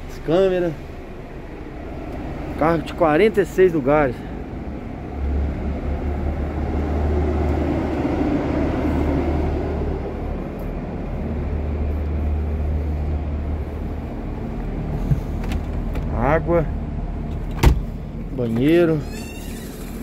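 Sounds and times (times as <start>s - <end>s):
idling bus engine hum: 0.0s - 20.0s.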